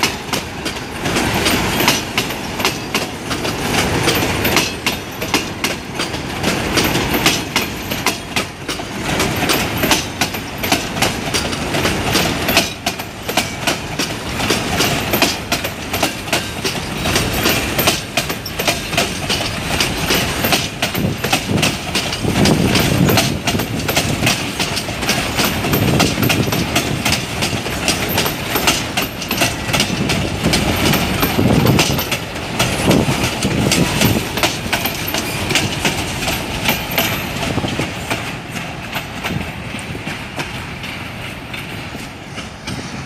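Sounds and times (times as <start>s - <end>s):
train rumble: 0.0s - 43.0s
train wheels clattering over rail joints: 0.0s - 43.0s.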